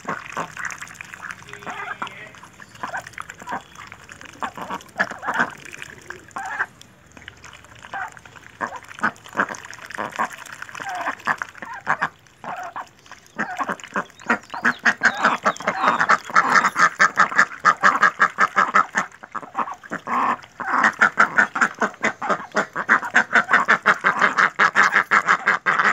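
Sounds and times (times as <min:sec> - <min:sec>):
ducks dabbling and slurping: 0:00.0 - 0:25.9
ducks quacking: 0:00.0 - 0:25.9.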